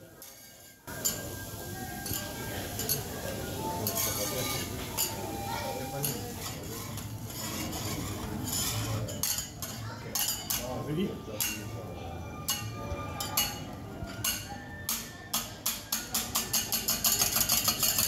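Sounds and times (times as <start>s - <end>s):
metal spatula scraping on griddle: 0.0s - 10.6s, 12.5s - 18.0s.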